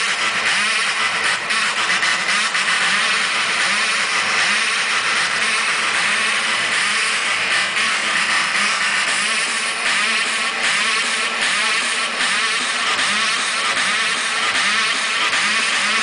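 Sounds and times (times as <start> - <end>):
loud hardstyle dance music: 0.0 - 16.0.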